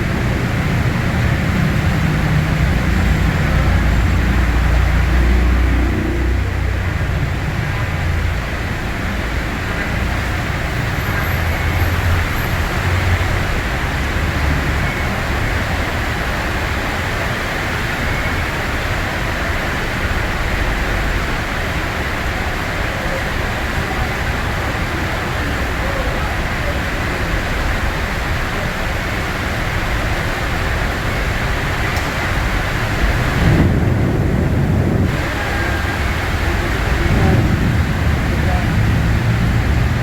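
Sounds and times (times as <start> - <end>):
heavy rain hiss: 0.0 - 40.0
road traffic rumble: 0.0 - 40.0.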